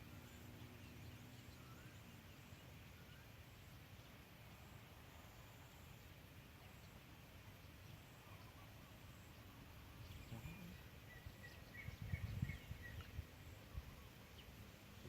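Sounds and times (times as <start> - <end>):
bird chirping faintly: 0.0 - 15.0.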